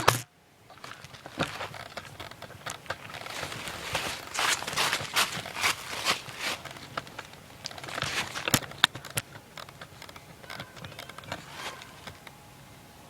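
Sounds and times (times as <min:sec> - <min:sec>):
footsteps rustling and crunching: 0:00.7 - 0:12.4.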